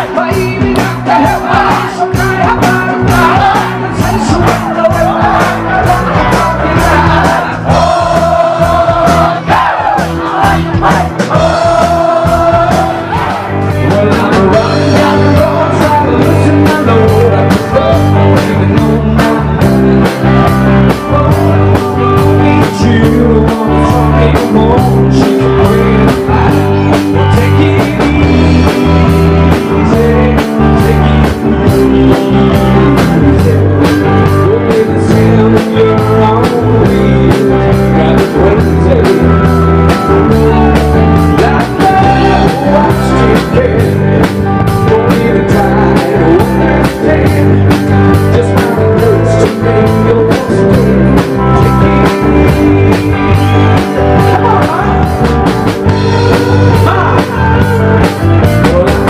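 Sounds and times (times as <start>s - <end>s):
bass guitar: 0.0s - 59.0s
drum kit beat: 0.0s - 59.0s
electric guitar: 0.0s - 59.0s
man singing: 0.0s - 59.0s.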